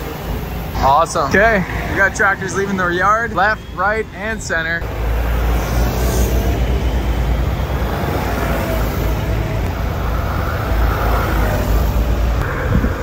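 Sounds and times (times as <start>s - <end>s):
diesel tractor engines running: 0.0s - 13.0s.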